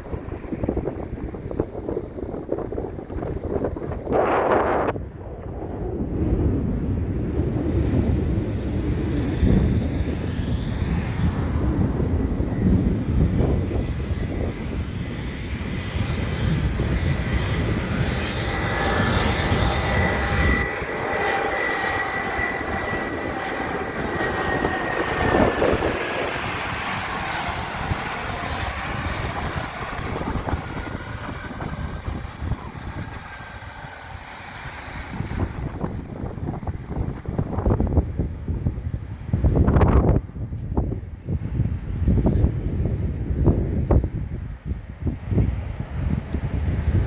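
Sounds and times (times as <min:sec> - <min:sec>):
airliner engines passing: 0:00.0 - 0:47.0
wind rumble on microphone: 0:00.0 - 0:47.0.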